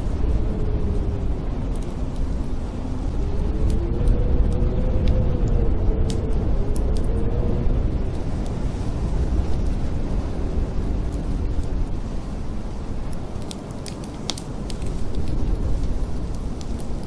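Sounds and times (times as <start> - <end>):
wind howling: 0.0 - 17.0
wind whistling: 0.0 - 17.0
wood fire crackling: 0.0 - 17.0.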